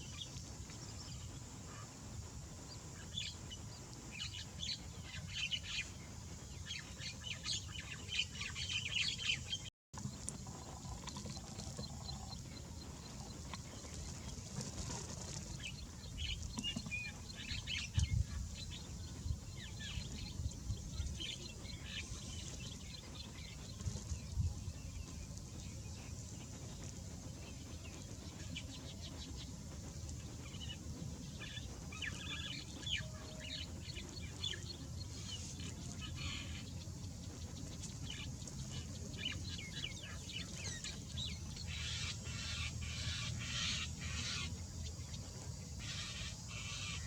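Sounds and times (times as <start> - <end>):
birds chirping: 0.0 - 47.0
low background rumble: 0.0 - 47.0.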